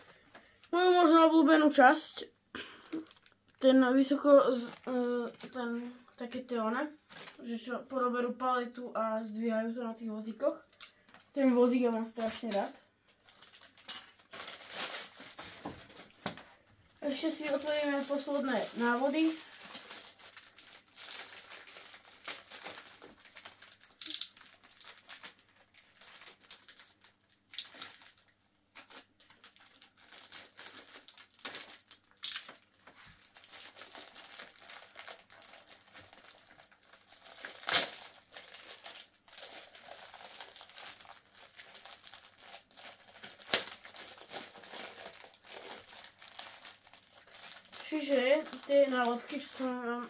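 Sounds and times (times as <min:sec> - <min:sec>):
plastic wrapping crinkling: 0:02.6 - 0:07.6, 0:10.4 - 0:50.0.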